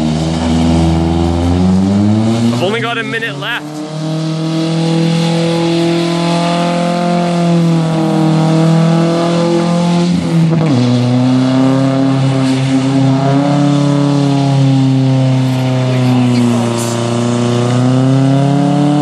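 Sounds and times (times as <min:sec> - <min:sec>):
tires spinning on wet pavement: 0:00.0 - 0:19.0
truck engine revving: 0:00.0 - 0:19.0.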